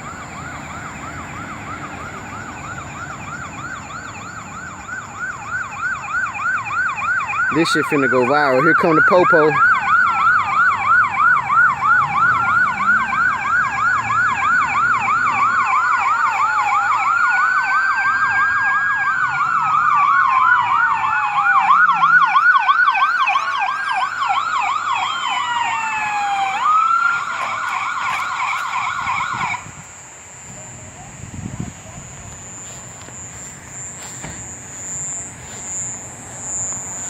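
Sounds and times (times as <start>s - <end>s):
police sirens yelping and wailing: 0.0s - 37.0s.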